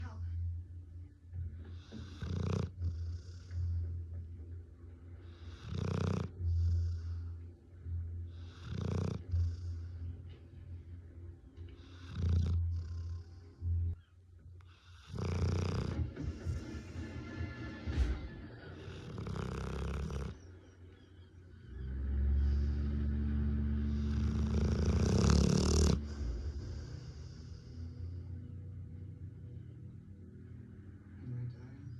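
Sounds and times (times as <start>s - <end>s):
dog snoring: 1.4s - 4.3s, 4.9s - 28.6s.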